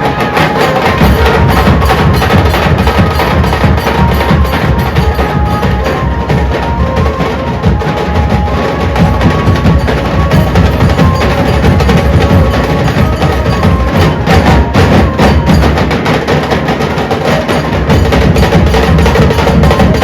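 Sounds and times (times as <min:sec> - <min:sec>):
dhol drums beating fast: 0:00.0 - 0:20.0.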